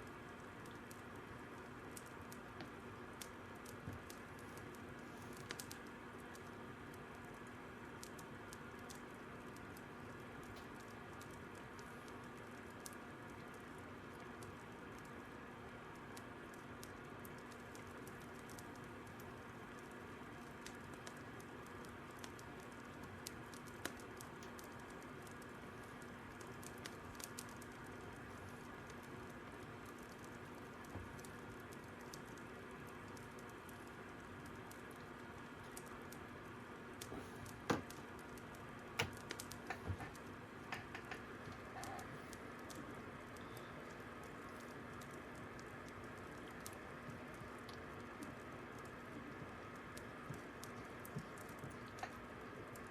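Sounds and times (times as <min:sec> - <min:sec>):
faint steady hiss: 0:00.0 - 0:52.9
fire crackling and popping: 0:00.0 - 0:52.9.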